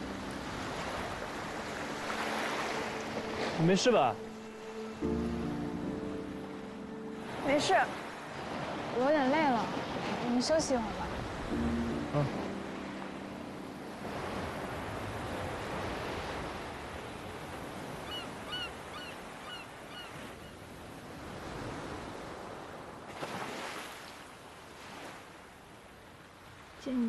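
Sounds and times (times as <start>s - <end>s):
waves washing ashore: 0.0s - 27.0s.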